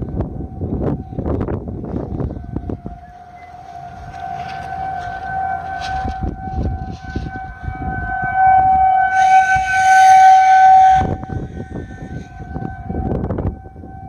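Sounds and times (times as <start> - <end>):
rushing noise: 0.0 - 14.0
warning siren steady tone: 0.0 - 14.0.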